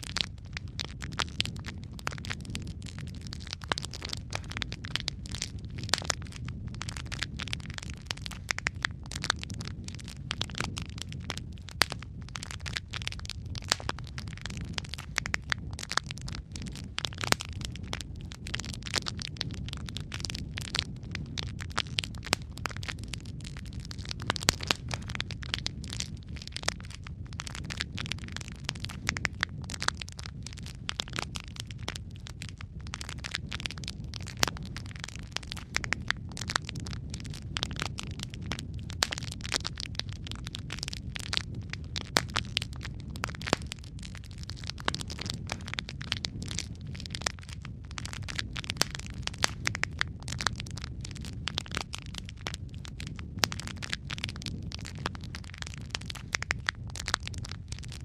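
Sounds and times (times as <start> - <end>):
low rumble of flames: 0.0 - 58.0
sharp pops and snaps: 0.0 - 58.0
wood fire crackling: 0.0 - 58.0.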